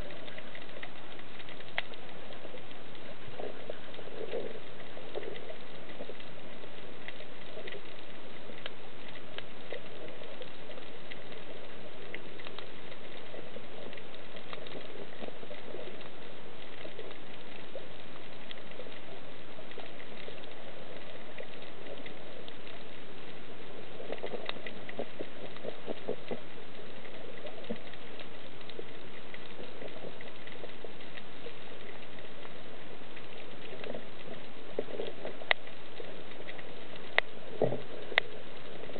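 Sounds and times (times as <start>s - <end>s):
low pulsing underwater sounds: 0.0s - 38.9s
underwater crackle of fine clicks: 0.0s - 38.9s.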